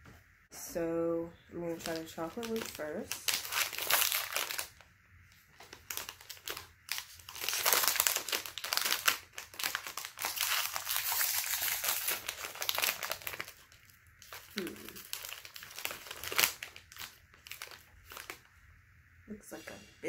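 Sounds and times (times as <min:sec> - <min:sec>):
foil wrapper crinkling: 0:01.7 - 0:18.5.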